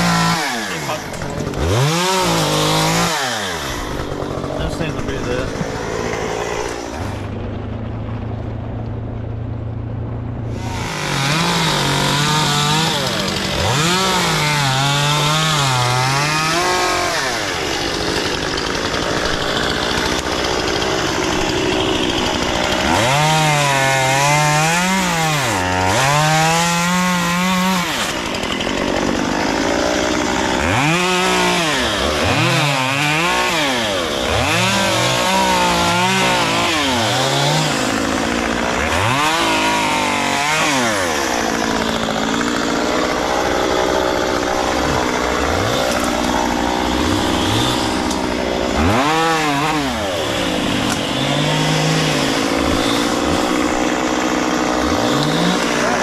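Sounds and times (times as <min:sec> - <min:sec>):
chainsaw cutting wood: 0:00.0 - 0:07.3, 0:10.5 - 0:56.0.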